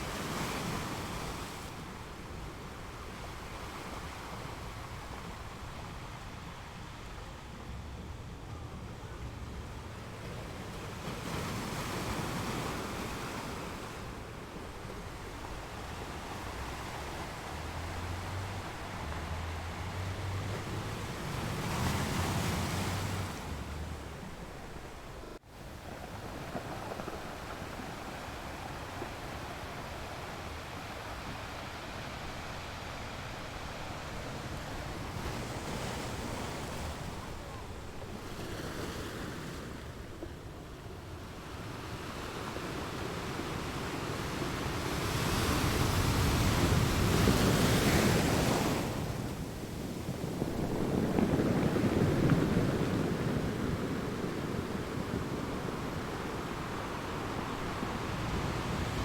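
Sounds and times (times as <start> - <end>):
big waves breaking: 0.0 - 59.0
ocean surf washing: 0.0 - 59.0.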